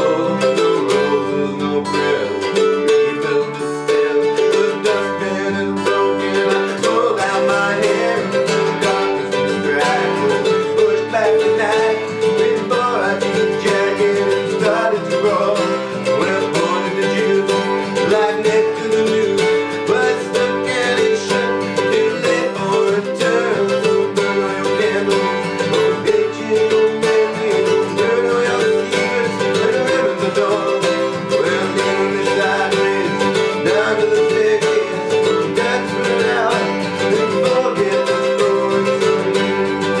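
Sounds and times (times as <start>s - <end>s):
country jazz band music: 0.0s - 40.0s
rapidly picked acoustic guitar: 0.0s - 40.0s.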